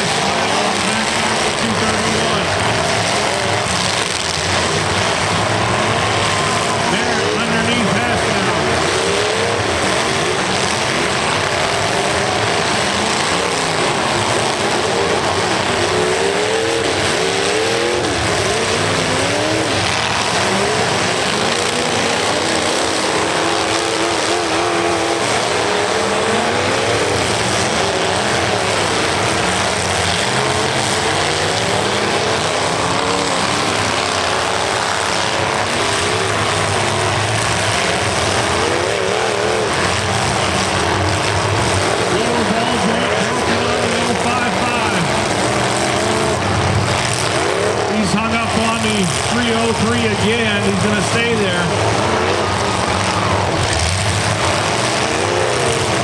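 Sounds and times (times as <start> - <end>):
car engines revving: 0.0 - 56.0
loud arena noise: 0.0 - 56.0.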